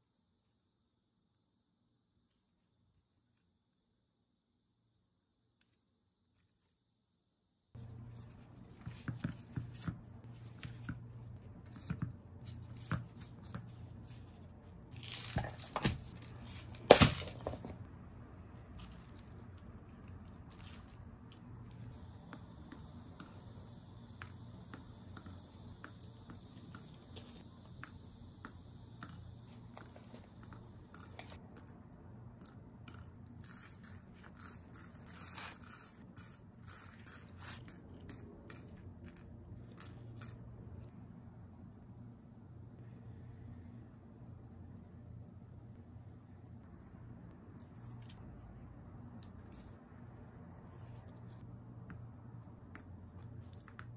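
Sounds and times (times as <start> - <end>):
soft steady hiss: 7.6 - 53.9.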